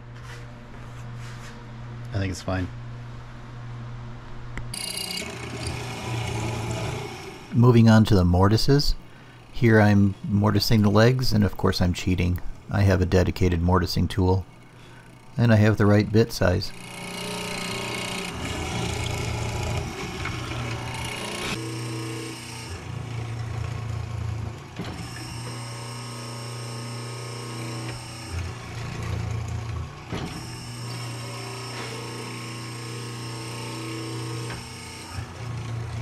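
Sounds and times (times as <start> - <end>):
mortiser motor humming: 4.7 - 11.4, 12.3 - 36.0.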